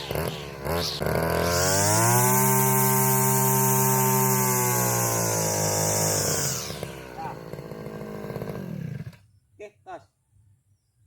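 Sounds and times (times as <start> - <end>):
brush cutter engine revving: 0.0 - 9.3.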